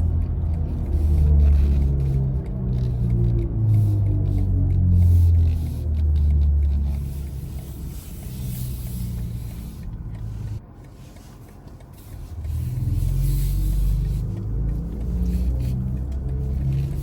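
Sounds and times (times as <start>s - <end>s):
electric car driving: 0.0s - 17.0s.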